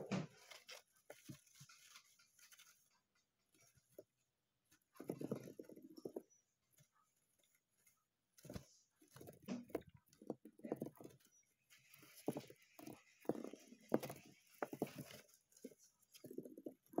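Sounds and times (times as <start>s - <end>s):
hamster scrabbling on plastic: 0.0s - 17.0s.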